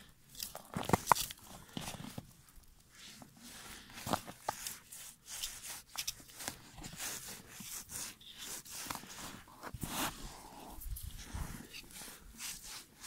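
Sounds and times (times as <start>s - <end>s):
crunching and scraping on snowy ice: 0.3s - 13.0s.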